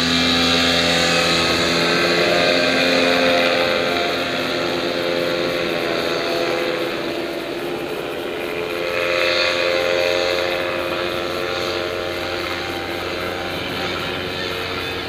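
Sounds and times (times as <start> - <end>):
paramotor engine and propeller droning: 0.0 - 15.0.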